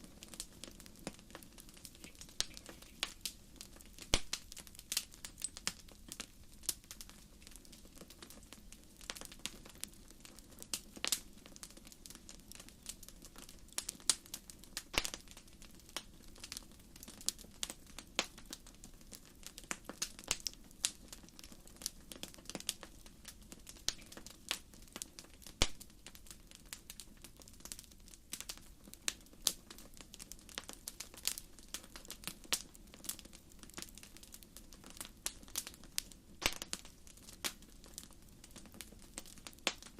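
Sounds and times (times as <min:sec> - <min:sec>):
soft hiss of flames: 0:00.0 - 0:39.9
wood fire crackling and popping: 0:00.0 - 0:39.9.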